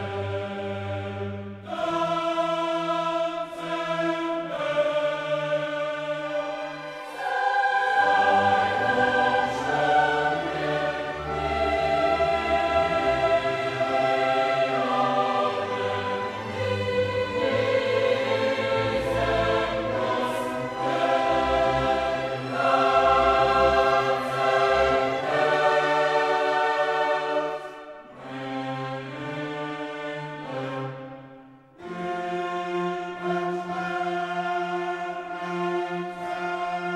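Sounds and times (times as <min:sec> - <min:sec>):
choir with orchestra chords: 0:00.0 - 0:36.9.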